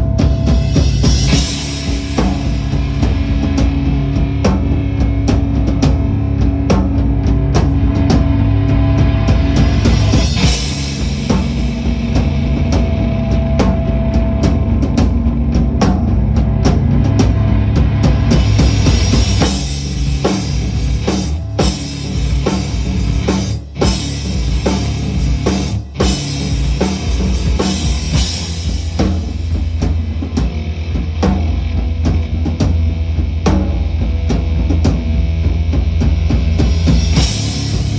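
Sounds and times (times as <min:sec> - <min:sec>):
drum kit with cymbals: 0:00.0 - 0:37.9
rock band playing: 0:00.0 - 0:37.9.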